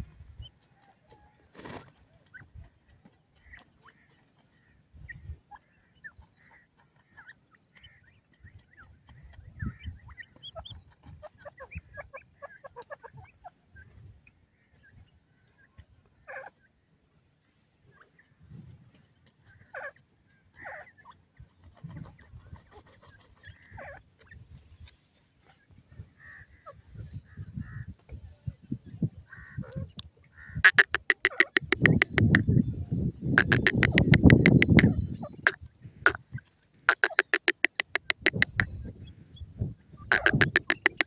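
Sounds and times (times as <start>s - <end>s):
young birds clucking and chirping: 0.0s - 41.0s.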